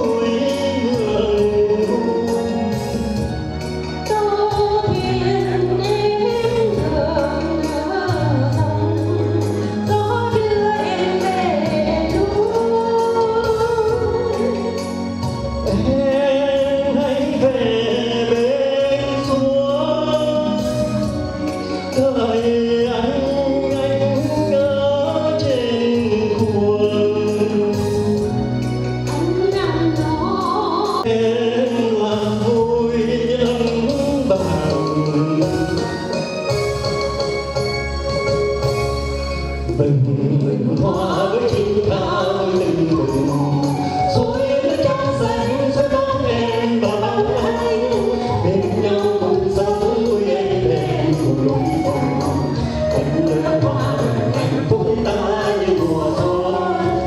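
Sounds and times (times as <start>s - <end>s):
song with steady beat: 0.0s - 57.0s.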